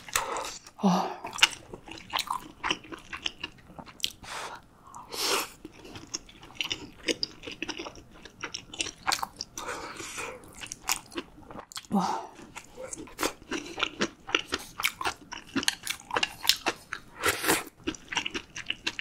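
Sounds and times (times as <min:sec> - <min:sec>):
chewing soft food: 0:00.0 - 0:19.0.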